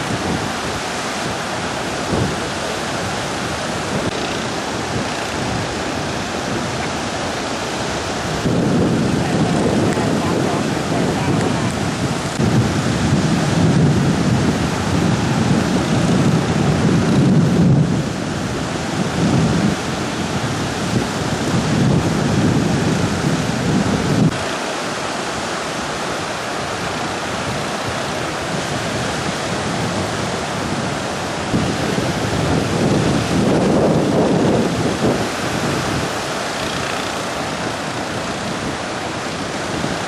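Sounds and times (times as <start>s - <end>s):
surf on beach: 0.0s - 40.0s
wind buffeting microphone: 0.0s - 40.0s.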